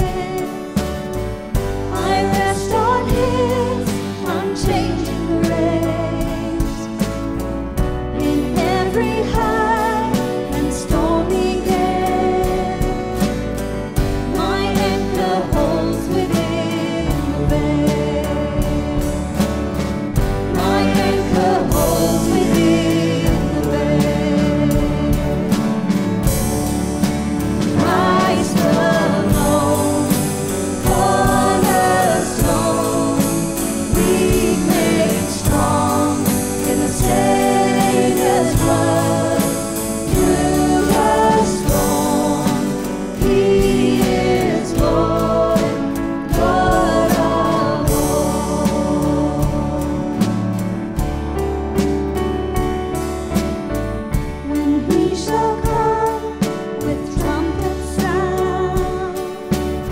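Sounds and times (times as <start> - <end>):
worship band playing and singing: 0.0 - 59.9.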